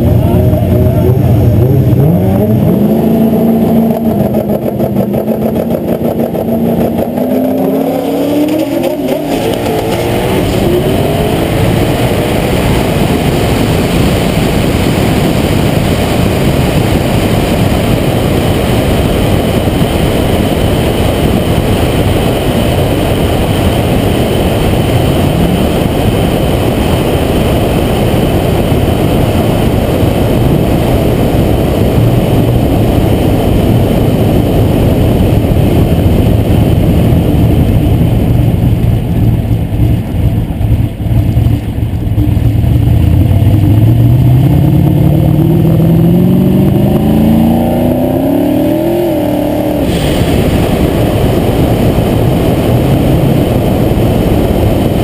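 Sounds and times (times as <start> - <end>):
car engine accelerating hard: 0.0 - 55.0
wind noise on microphone: 0.0 - 55.0.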